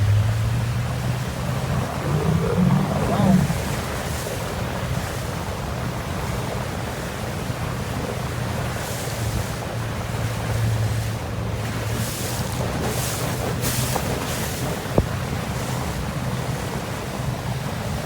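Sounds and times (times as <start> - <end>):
motorboat engine hum: 0.0 - 18.0
water noise from hull: 0.0 - 18.0.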